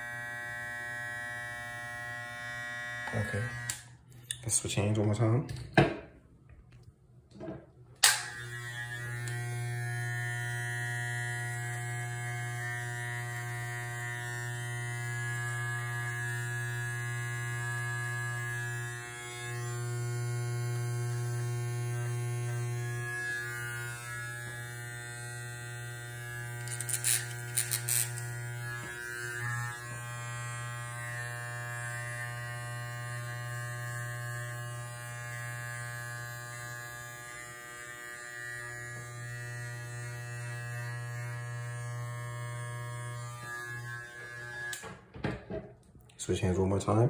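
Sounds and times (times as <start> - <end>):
hair trimmer buzzing: 0.0 - 4.4, 8.0 - 45.0.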